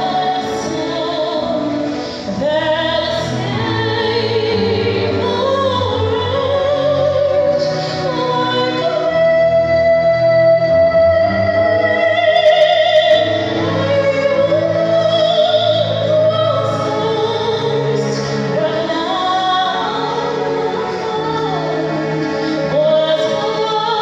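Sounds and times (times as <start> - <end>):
woman singing a hymn: 0.0 - 24.0.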